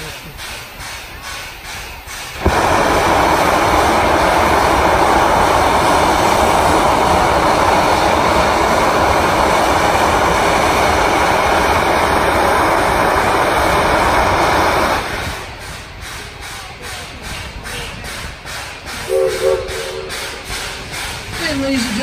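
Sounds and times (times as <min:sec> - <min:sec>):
loud steam hiss: 0:00.0 - 0:22.0.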